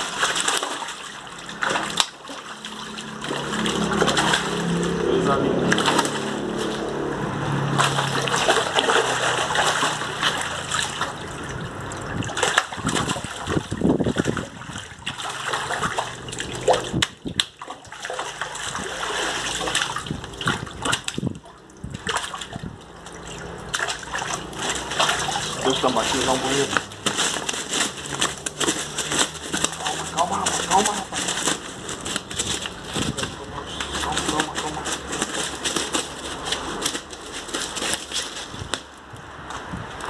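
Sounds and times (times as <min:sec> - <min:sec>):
fish thrashing in net: 0:00.0 - 0:39.1
water slapping: 0:00.0 - 0:39.4
water splashing and sloshing: 0:00.0 - 0:40.0.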